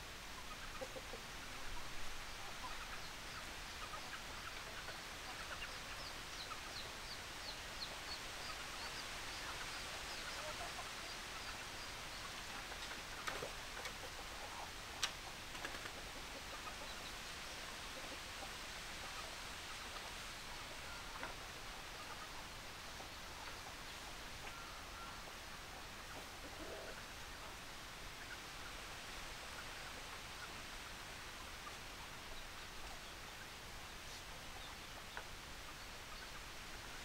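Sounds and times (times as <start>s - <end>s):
chickens clucking: 0.4s - 37.0s.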